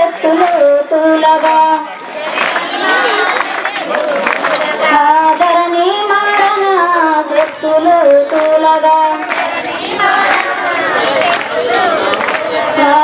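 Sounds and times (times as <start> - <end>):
woman singing through microphone: 0.0 - 3.4, 4.6 - 13.0
women clapping in time: 0.0 - 13.0.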